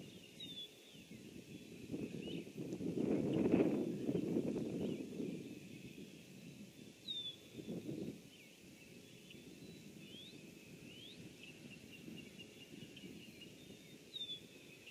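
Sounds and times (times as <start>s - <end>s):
outdoor background hum: 0.0s - 14.9s
small birds calling: 0.0s - 14.9s.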